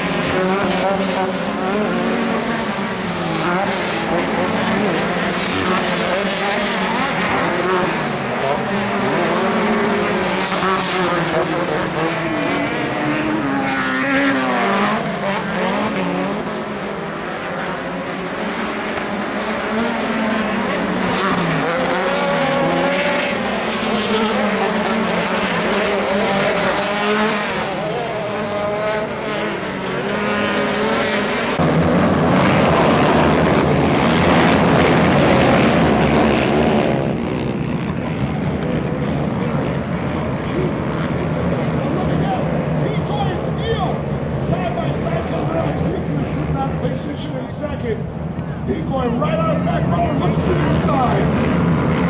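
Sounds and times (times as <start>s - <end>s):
racing engines revving: 0.0s - 52.0s.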